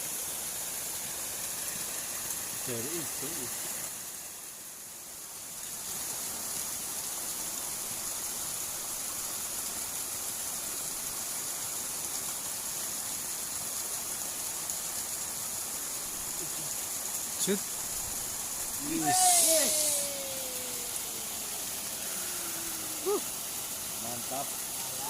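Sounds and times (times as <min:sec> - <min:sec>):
water flowing in a ditch: 0:00.0 - 0:25.0.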